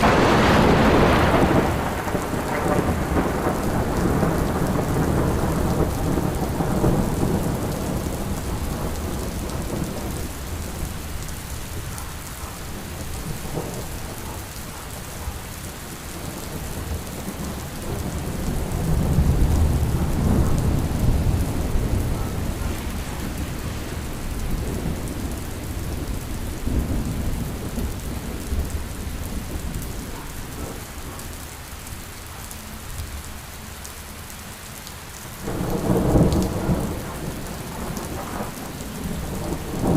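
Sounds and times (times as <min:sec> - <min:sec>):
rolling thunder: 0:00.0 - 0:31.5, 0:35.4 - 0:39.9
steady rain: 0:00.0 - 0:39.9.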